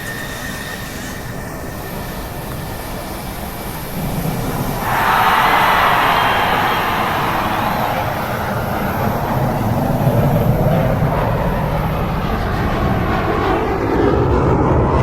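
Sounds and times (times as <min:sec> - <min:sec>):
airplane engine running: 0:00.0 - 0:15.0.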